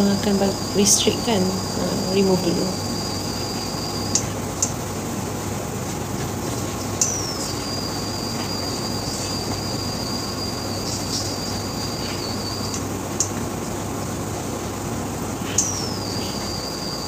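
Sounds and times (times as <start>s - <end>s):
induction hob whining: 0.0s - 17.0s.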